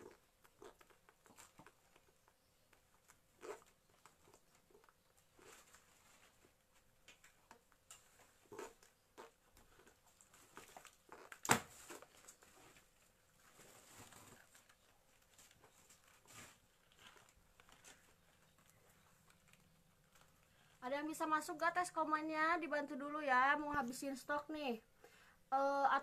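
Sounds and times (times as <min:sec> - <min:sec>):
clothes and packaging rustling: 0:00.0 - 0:21.9.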